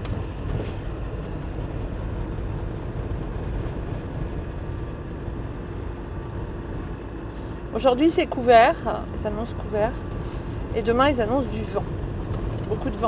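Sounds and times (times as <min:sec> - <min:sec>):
engine rumble inside vehicle: 0:00.0 - 0:13.0
tyre road noise: 0:00.0 - 0:13.0.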